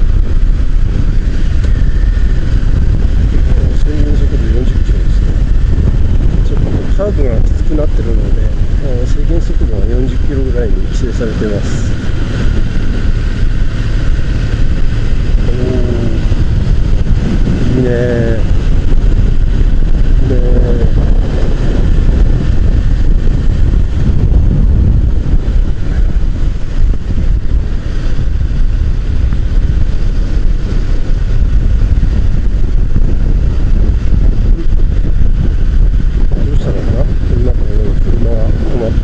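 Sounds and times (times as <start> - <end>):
motorcycle engine running: 0.0 - 39.0
wind rushing over microphone: 0.0 - 39.0.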